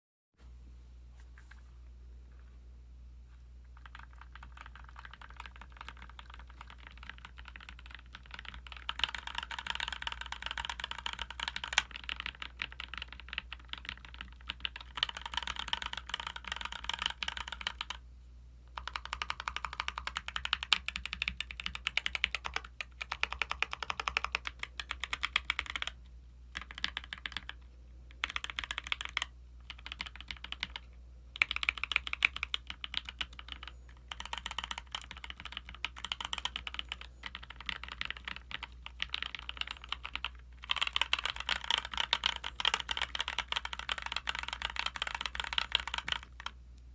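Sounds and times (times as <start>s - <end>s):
faint low hum: 0.4s - 46.9s
typing on mechanical keyboard: 3.8s - 18.0s, 18.8s - 46.6s.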